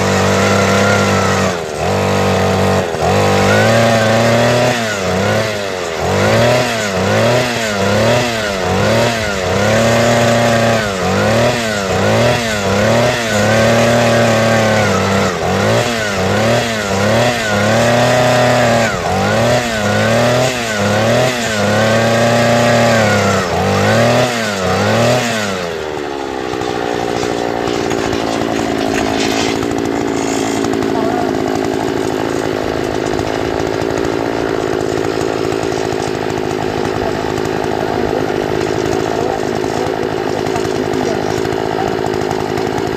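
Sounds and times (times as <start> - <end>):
earth auger engine running: 0.0 - 42.9.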